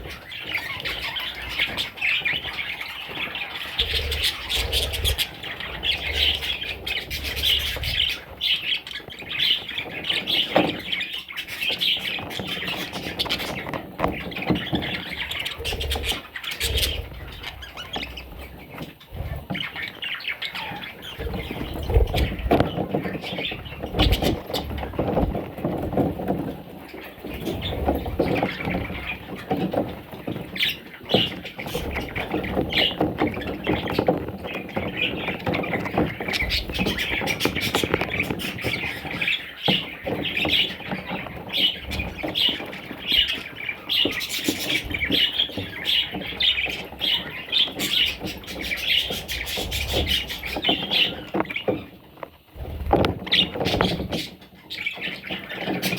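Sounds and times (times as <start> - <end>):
parrots chattering and squawking: 0.0 - 51.9, 52.6 - 55.9.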